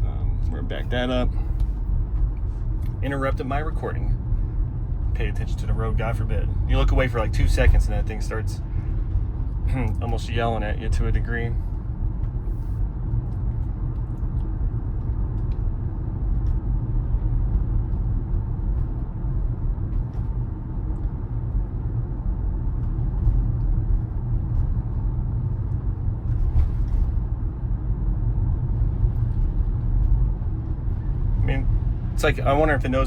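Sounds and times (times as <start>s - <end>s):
road and tyre rumble: 0.0s - 33.0s.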